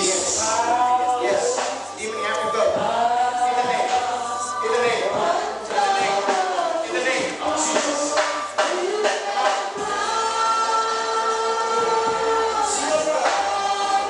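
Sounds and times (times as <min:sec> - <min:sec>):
choir chanting: 0:00.0 - 0:14.0.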